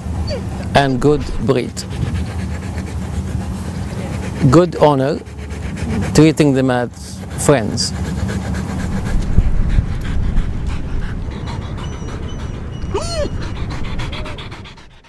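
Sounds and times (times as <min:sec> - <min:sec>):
dog panting rapidly: 0:00.0 - 0:15.0.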